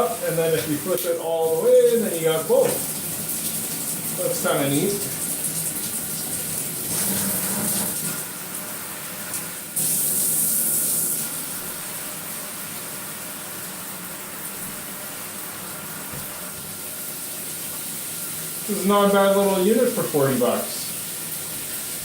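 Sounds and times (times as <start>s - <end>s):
water spraying from shower heads: 0.0s - 22.0s.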